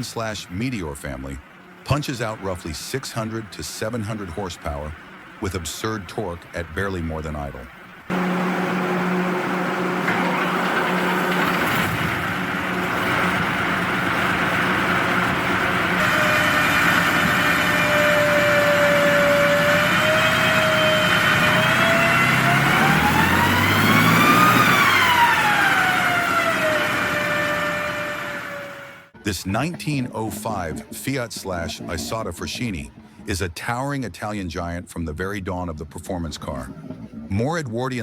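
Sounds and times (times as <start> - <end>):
high engine whine: 0.0 - 33.3
engine running: 0.0 - 33.4.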